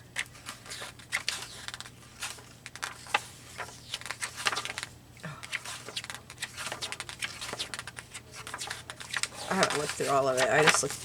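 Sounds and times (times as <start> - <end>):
book pages turning: 0.1 - 11.0.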